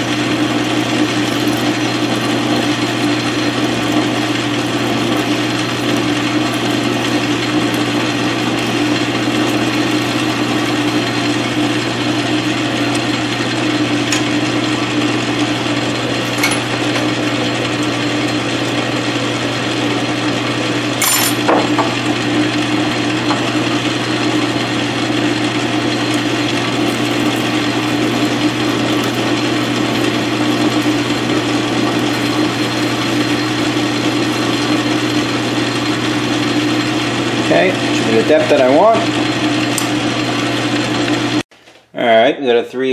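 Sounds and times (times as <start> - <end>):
drill boring into workpiece: 0.0 - 41.4
lathe running: 0.0 - 41.4.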